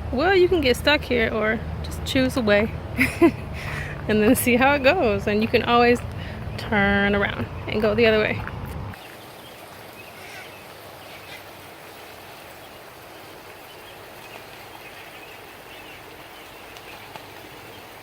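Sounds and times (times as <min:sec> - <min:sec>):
running water: 0:00.0 - 0:18.0.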